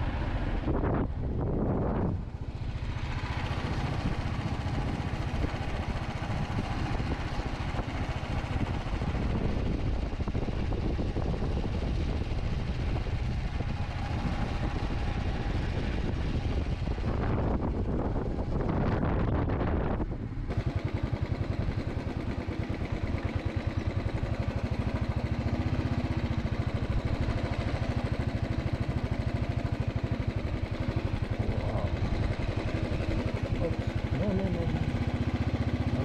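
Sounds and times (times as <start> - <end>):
road rumble: 0.0 - 36.0
vehicle engine running: 0.0 - 36.0.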